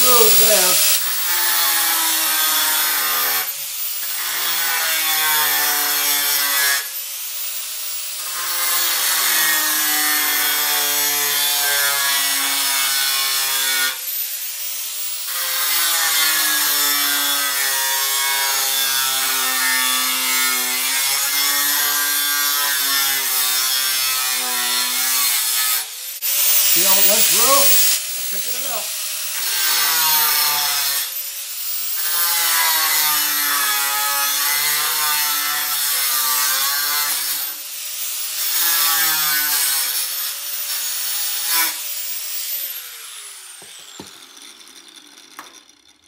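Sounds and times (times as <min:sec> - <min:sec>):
angle grinder cutting steel: 0:00.0 - 0:46.0.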